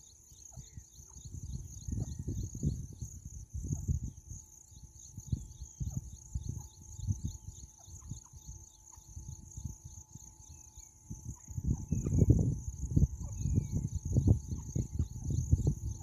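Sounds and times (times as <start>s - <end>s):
constant high buzz: 0.0s - 16.0s
insects chirping in rapid pulse: 0.0s - 16.0s
wind rumbling on microphone: 0.0s - 16.0s.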